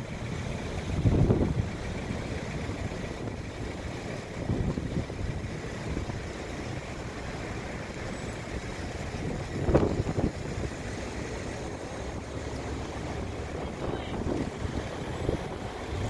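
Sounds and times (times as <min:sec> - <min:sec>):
cars idling and creeping: 0:00.0 - 0:16.0
wind buffeting microphone: 0:00.7 - 0:16.0.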